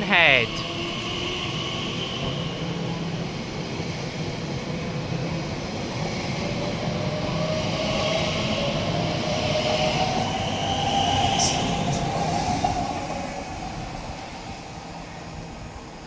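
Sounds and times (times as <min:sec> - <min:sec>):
electric train hum: 0:00.0 - 0:16.0.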